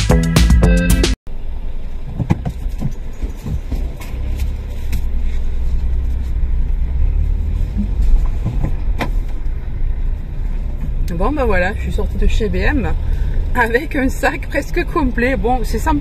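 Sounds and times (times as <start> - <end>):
low road rumble: 0.0 - 16.0.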